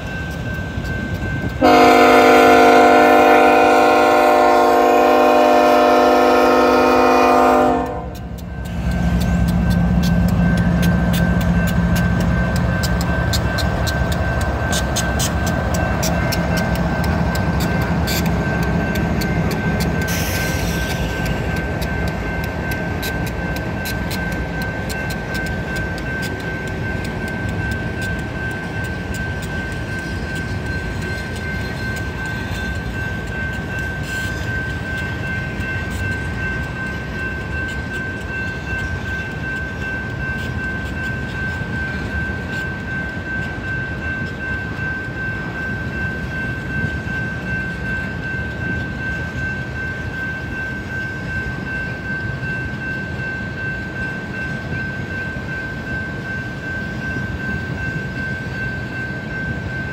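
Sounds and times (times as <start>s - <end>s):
steady high-pitched tone: 8.0s - 59.9s.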